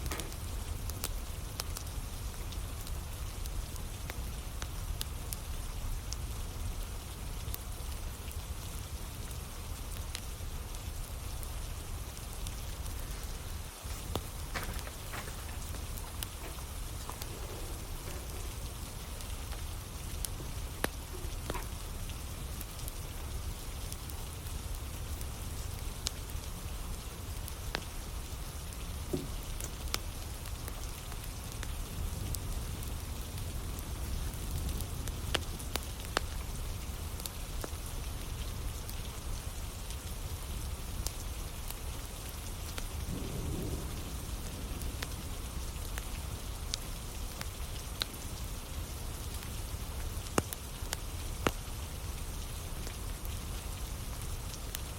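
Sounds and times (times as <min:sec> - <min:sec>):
campfire crackling pops: 0:00.0 - 0:05.4, 0:07.4 - 0:54.9
steady rain falling: 0:00.0 - 0:54.9.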